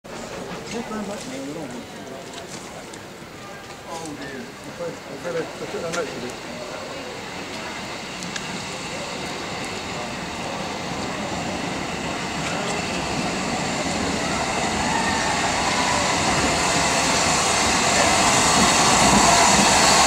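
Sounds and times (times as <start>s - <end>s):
steam locomotive running: 0.1s - 20.0s.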